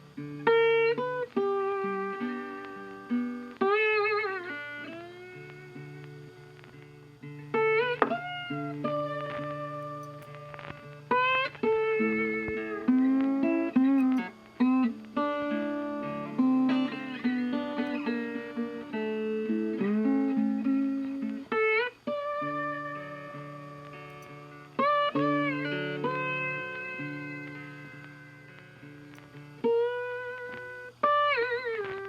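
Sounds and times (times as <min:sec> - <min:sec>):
plucked string instrument music: 0:00.0 - 0:32.0.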